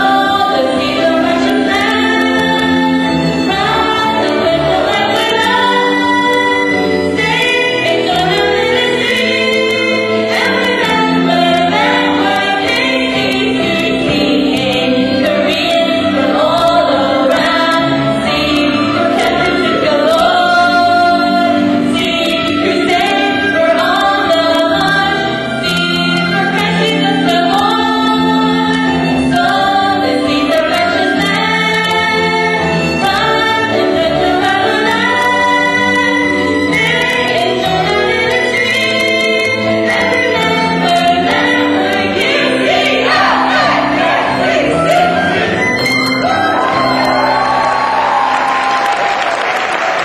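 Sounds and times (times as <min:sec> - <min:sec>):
gospel choir singing: 0:00.0 - 0:50.0.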